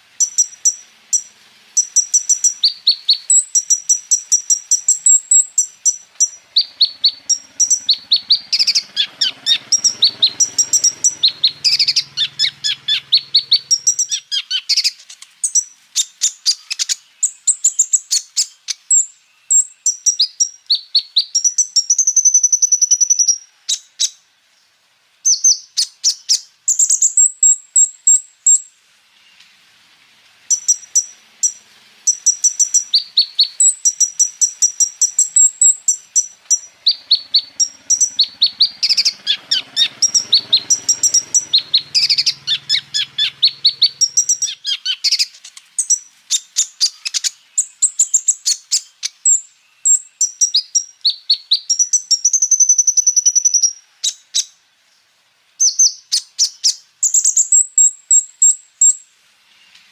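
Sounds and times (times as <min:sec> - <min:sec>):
bird singing trills: 0:00.0 - 0:24.2, 0:25.3 - 0:29.4, 0:30.5 - 0:54.7, 0:55.6 - 0:59.8.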